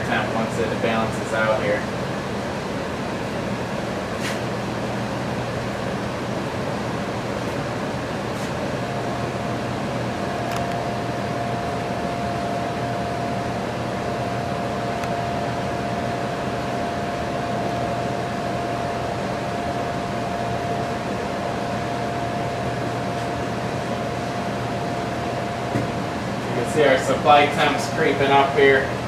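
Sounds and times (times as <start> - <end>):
air handler blower humming: 0.0 - 29.0.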